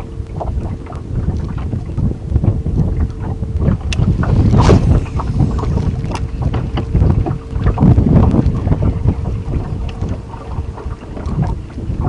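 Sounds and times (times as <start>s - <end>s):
faint boat hum: 0.0s - 12.0s
wind buffeting microphone: 0.0s - 12.0s.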